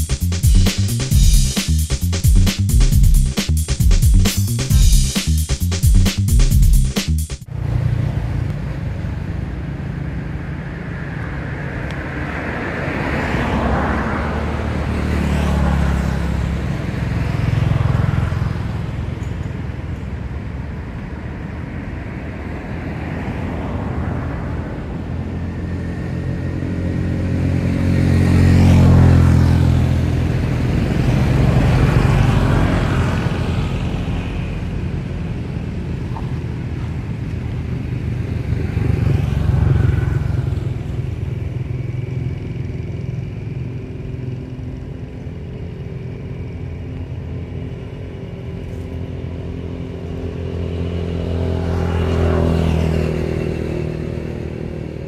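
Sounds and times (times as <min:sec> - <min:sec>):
traffic passing: 0:00.0 - 0:55.0
low engine hum: 0:07.4 - 0:55.0.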